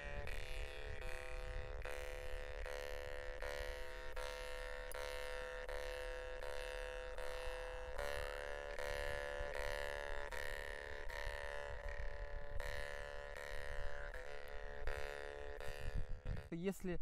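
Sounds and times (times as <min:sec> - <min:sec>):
jaw harps droning: 0:00.0 - 0:17.0.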